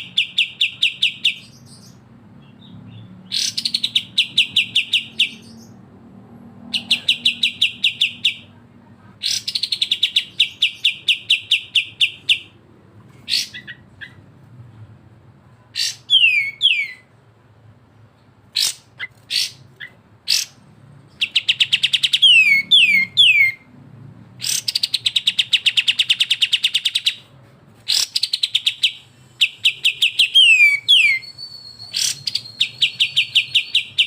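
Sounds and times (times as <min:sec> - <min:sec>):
sharp bird calls: 0:00.0 - 0:05.8, 0:06.6 - 0:08.6, 0:09.2 - 0:12.6, 0:13.2 - 0:14.2, 0:15.7 - 0:17.1, 0:18.5 - 0:23.7, 0:24.4 - 0:34.0.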